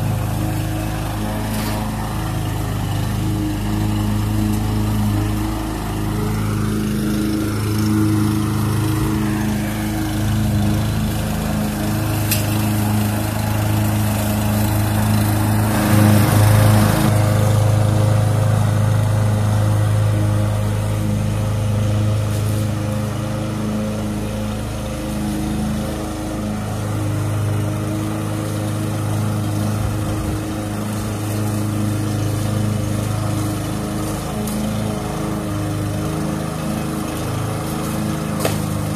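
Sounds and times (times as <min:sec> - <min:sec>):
lawn mower cutting grass: 0:00.0 - 0:38.9.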